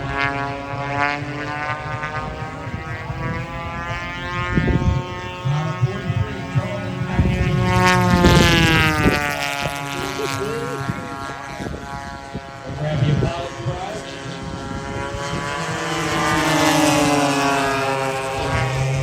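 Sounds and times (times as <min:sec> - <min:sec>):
model plane engines flying past: 0:00.0 - 0:19.0.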